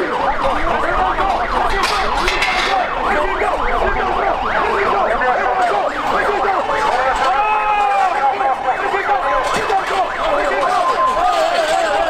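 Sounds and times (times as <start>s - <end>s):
low rumble of street noise: 0.0s - 12.0s
sirens yelping: 0.0s - 12.0s.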